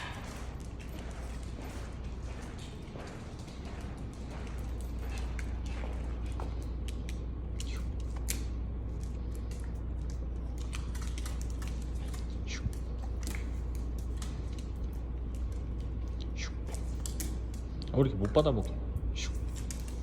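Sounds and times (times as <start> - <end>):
dog chewing treats: 0.0 - 18.5
low hum: 0.0 - 20.0.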